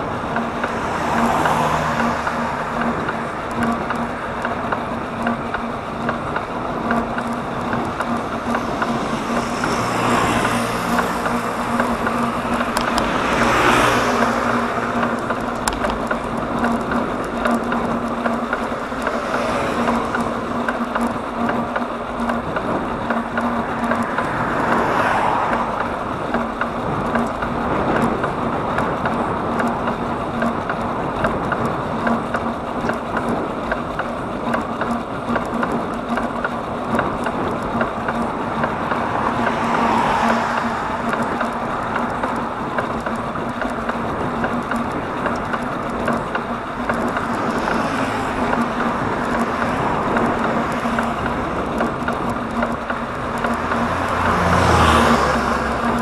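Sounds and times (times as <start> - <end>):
steady road noise: 0.0 - 56.0
vehicles passing: 0.0 - 56.0.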